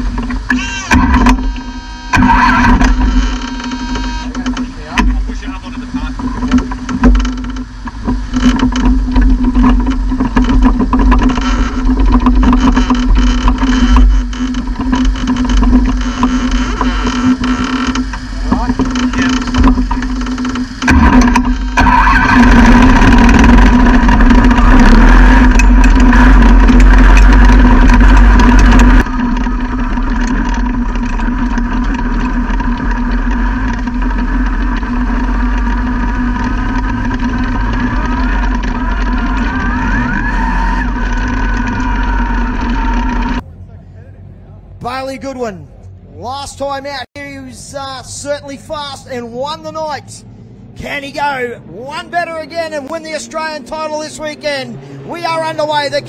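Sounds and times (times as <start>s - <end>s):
race car engine running: 0.0s - 46.1s, 46.7s - 56.0s.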